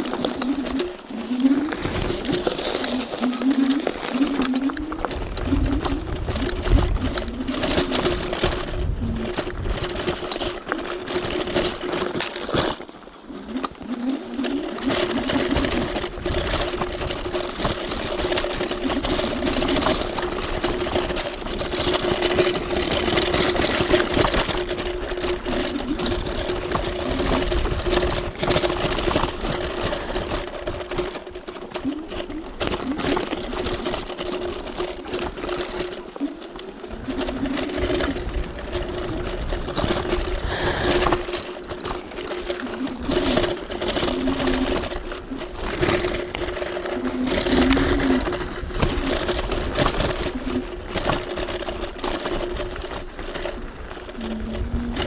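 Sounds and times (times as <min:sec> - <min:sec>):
wind noise: 0:00.0 - 0:12.8, 0:14.1 - 0:55.0
clatter over rough ground: 0:00.0 - 0:55.0.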